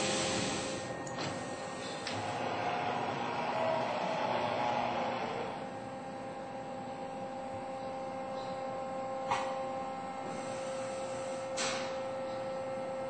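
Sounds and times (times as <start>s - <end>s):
steady two-tone hum: 0.0s - 13.0s.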